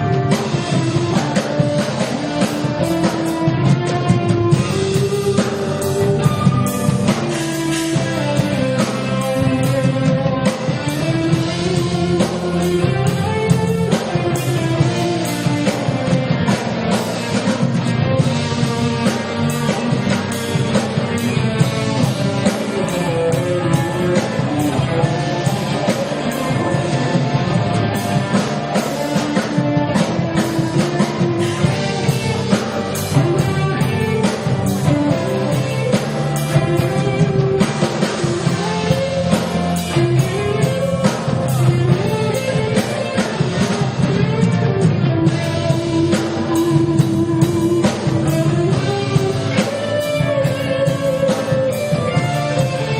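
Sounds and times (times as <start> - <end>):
drum kit: 0.0 - 52.9
electric guitars: 0.0 - 52.9
steady bass: 0.0 - 52.9.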